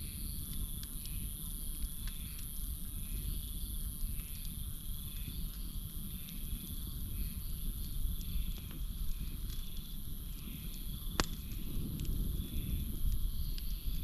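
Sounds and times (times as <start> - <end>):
campfire crackling: 0.0 - 14.0
crickets and frogs chorus: 0.0 - 14.0.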